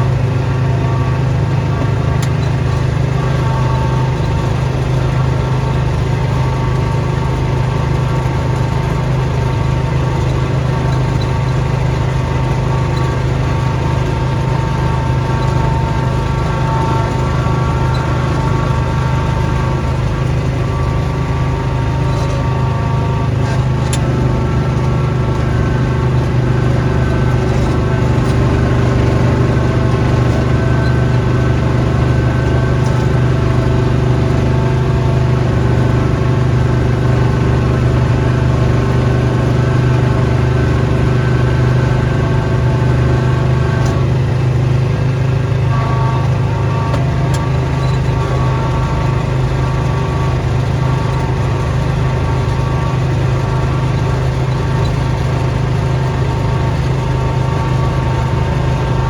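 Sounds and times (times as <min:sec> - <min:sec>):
small gasoline engine running: 0:00.0 - 0:59.0.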